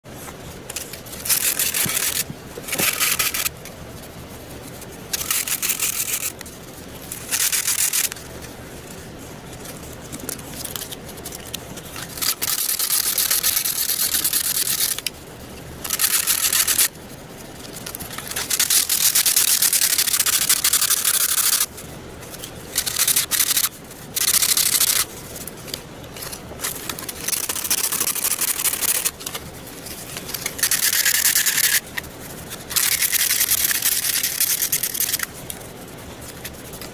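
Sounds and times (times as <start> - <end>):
rough rubbing or scraping: 0.1 - 36.9.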